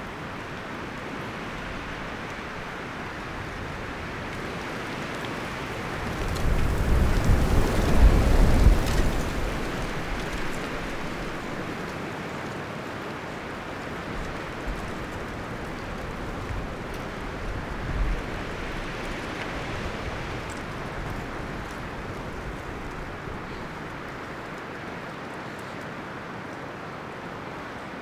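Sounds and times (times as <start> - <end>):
wind rustling tree leaves: 0.0 - 28.0.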